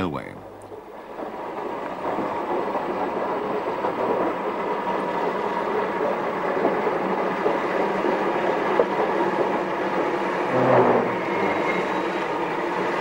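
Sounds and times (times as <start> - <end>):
train wheels rumbling on rails: 0.4 - 13.0.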